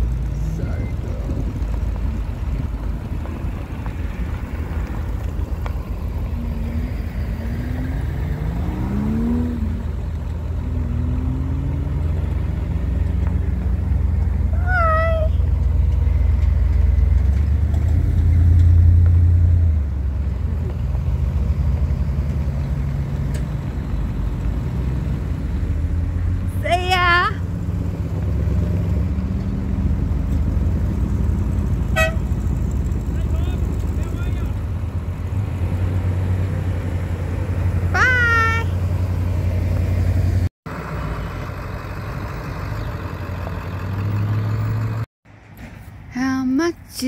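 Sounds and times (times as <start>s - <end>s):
pickup truck engines rumbling: 0.0s - 47.0s.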